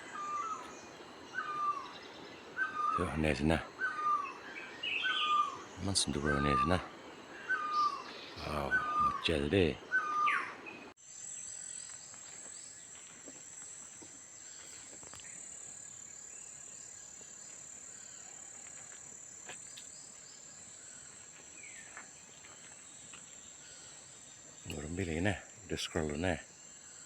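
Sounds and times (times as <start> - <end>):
faint bird chirps: 0.0 - 27.0.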